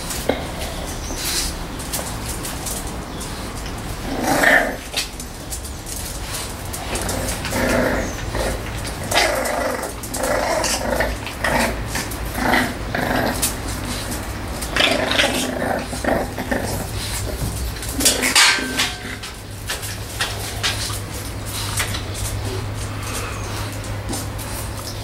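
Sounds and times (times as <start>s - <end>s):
puppies growling: 0.0s - 25.0s.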